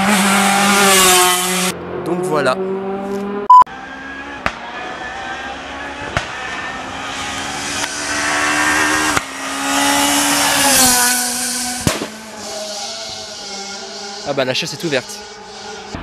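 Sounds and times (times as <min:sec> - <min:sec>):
rally car engine at full throttle: 0:00.0 - 0:16.0.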